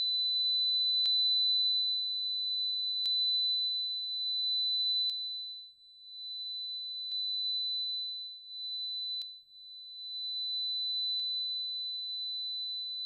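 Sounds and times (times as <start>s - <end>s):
sine test tone: 0.0s - 13.0s.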